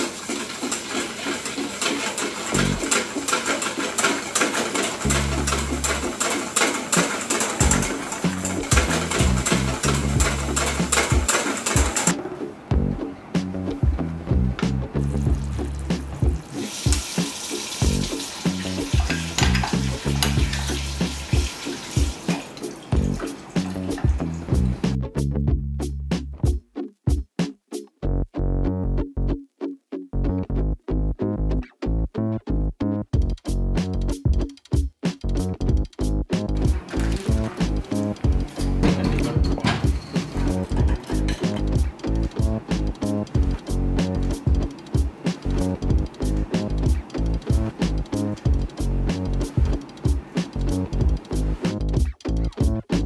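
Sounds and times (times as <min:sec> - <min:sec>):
music with steady beat and bass: 0:05.0 - 0:06.1, 0:07.6 - 0:53.0.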